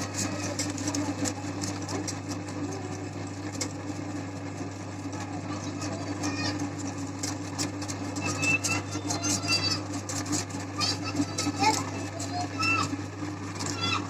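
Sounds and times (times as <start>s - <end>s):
electric meat grinder humming: 0.0s - 14.0s.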